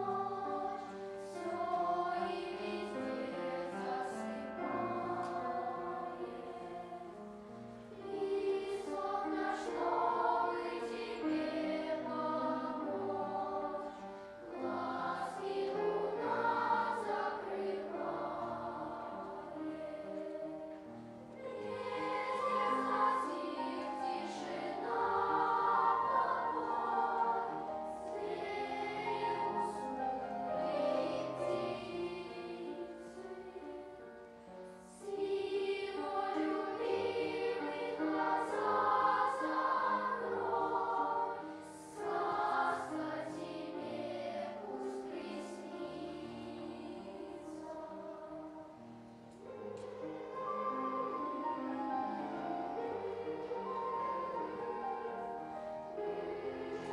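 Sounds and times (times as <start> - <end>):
children's choir singing lullaby: 0.0 - 56.9.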